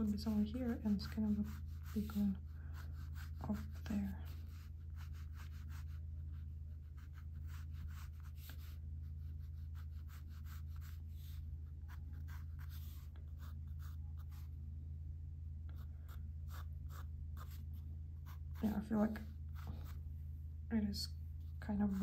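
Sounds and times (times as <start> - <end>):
scratchy sketching strokes: 0.0 - 14.6, 15.7 - 20.1, 21.5 - 22.0
low steady hum: 0.0 - 22.0.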